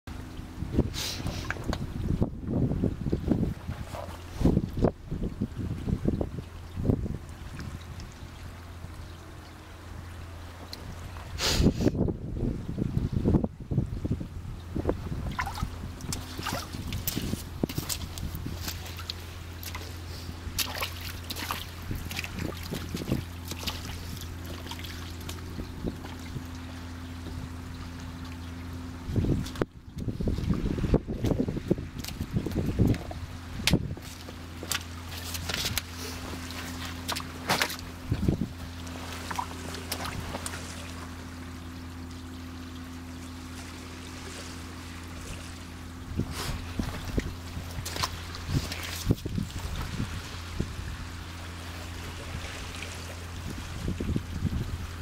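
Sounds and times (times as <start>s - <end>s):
boat engine humming: 0.1s - 55.0s
water lapping: 0.1s - 55.0s.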